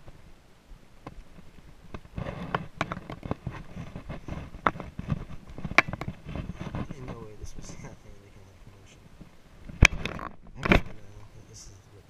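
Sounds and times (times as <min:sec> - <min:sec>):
footsteps through long grass: 0:01.2 - 0:11.3.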